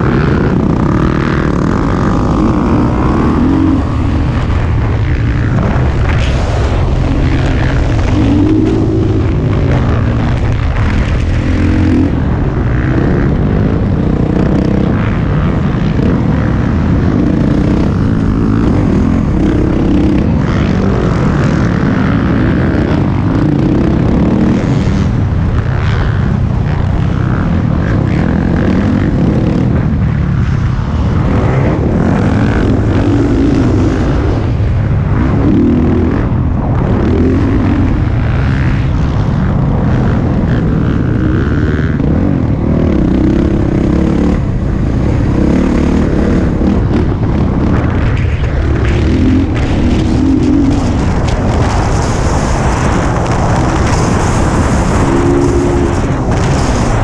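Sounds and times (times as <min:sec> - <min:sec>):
dirt bike engine revving: 0:00.0 - 0:57.0
wind buffeting microphone: 0:00.0 - 0:57.0.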